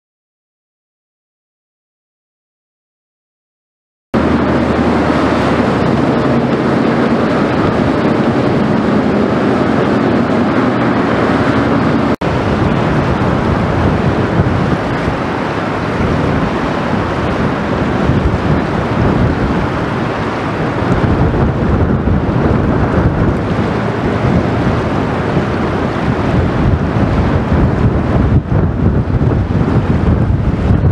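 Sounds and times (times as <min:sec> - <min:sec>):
river water washing: 0:04.2 - 0:30.9
wind buffeting microphone: 0:04.2 - 0:30.9.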